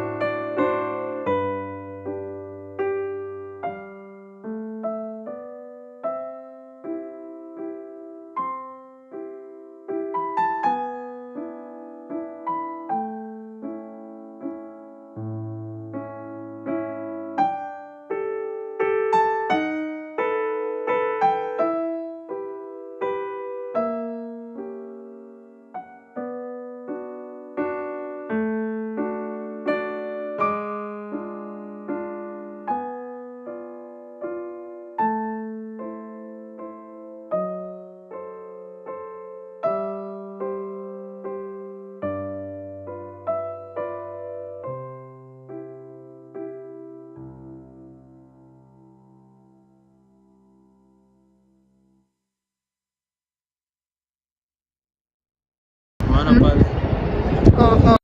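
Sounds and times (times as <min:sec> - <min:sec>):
solo piano music: 0:00.0 - 0:52.4.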